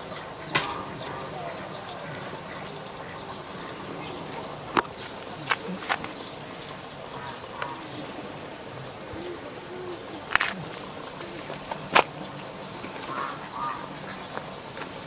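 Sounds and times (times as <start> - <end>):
wild birds calling: 0.0 - 15.0.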